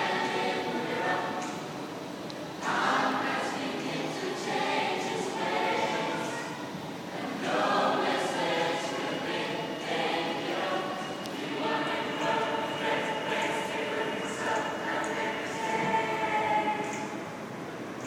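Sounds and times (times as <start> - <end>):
choir singing unaccompanied: 0.0 - 17.6.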